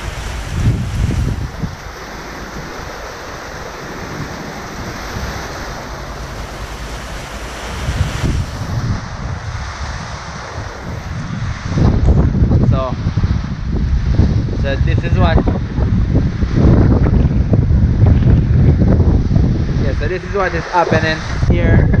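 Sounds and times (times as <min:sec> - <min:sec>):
storm wind and heavy rain: 0:00.0 - 0:22.0
wind gusts rumbling on microphone: 0:00.0 - 0:22.0.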